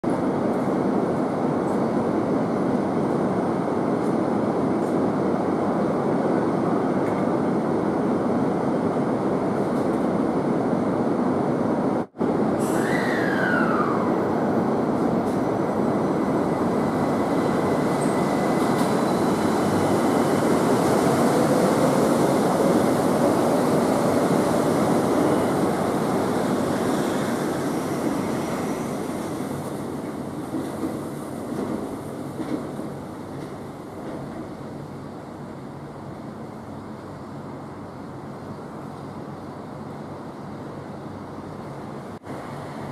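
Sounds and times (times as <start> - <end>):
faint whine of train: 0.0 - 42.9
monorail train running: 0.0 - 42.9.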